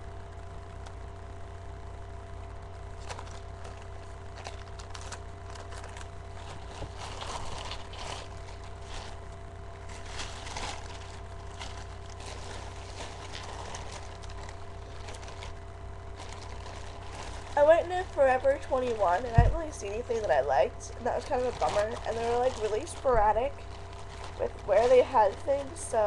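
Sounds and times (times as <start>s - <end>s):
low electrical hum: 0.0s - 26.0s
shopping bag rustling: 2.9s - 26.0s.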